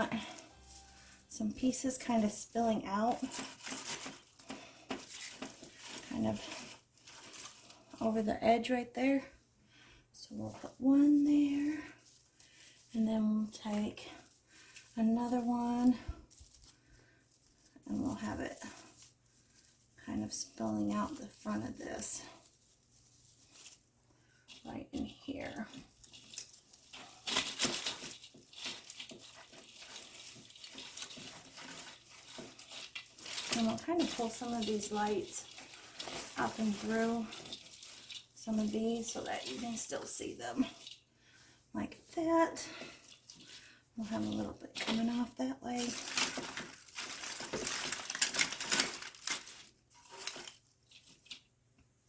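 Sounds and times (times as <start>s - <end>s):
artificial greenery rustling and crackling: 0.0s - 52.0s.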